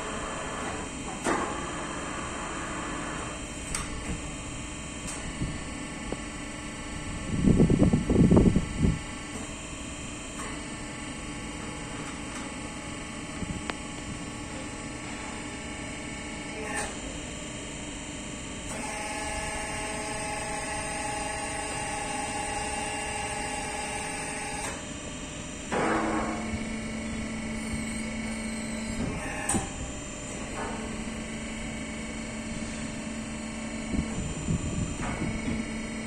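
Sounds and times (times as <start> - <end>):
low steady motor hum: 0.0 - 36.0
tyre changer motor whine: 0.0 - 36.0.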